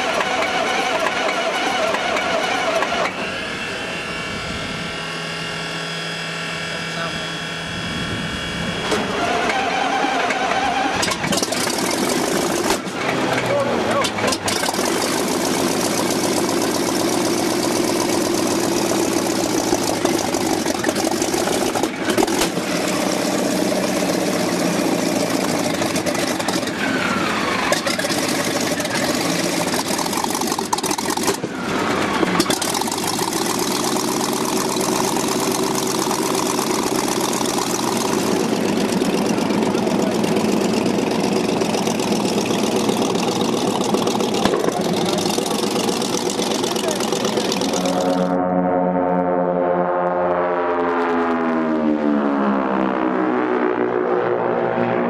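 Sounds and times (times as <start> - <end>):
aircraft engine running loud: 0.0 - 55.0.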